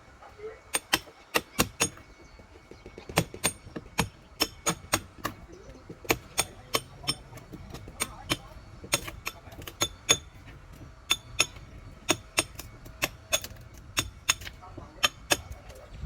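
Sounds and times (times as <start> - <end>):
hammer blows with metallic ring: 0.7 - 10.4, 11.0 - 15.6.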